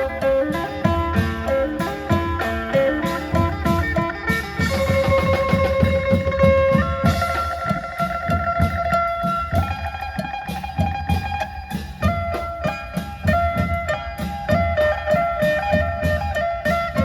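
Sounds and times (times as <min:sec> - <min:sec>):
long drums beat: 0:00.0 - 0:17.0.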